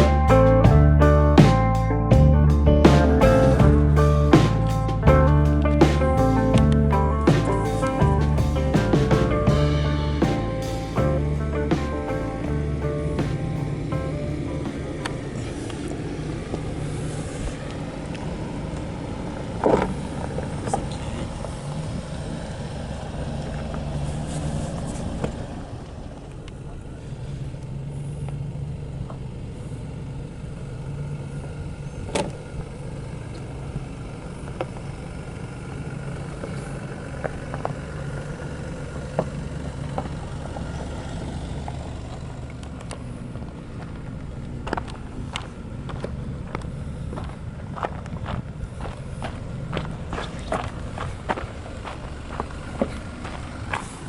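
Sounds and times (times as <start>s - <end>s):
suv engine drone: 0.0s - 54.0s.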